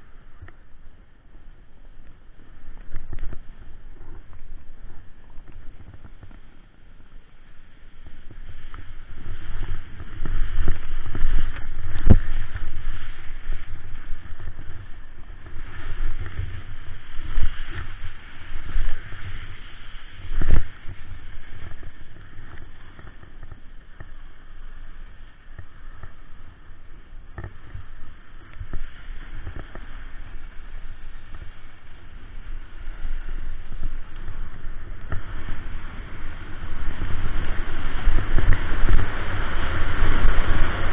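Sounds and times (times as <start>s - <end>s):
snowboard scraping over snow: 0.0s - 40.9s
wind rumble on microphone: 0.0s - 40.9s.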